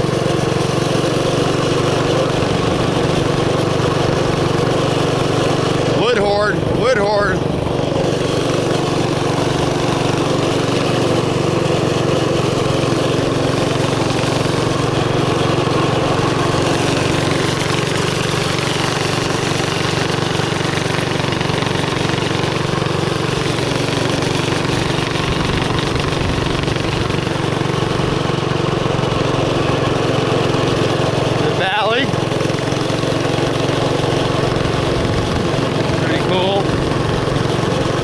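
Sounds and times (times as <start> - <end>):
small motorbike engine running: 0.0 - 38.0.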